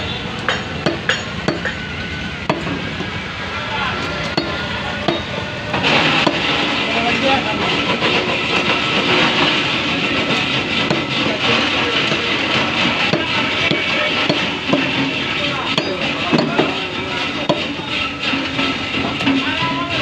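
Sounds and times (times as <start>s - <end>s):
continuous noisy rumble: 0.0s - 20.0s.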